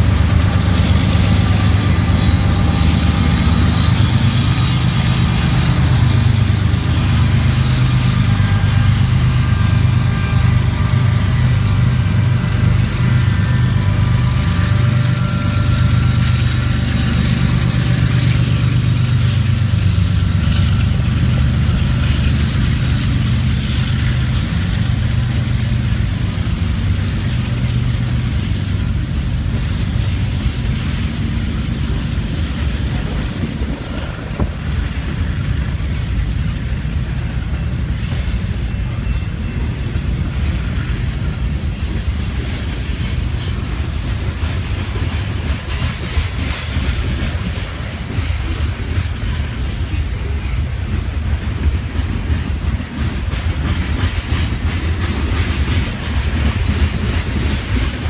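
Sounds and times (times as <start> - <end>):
diesel locomotive engine drone: 0.0 - 58.0
freight cars rolling on rails: 0.0 - 58.0.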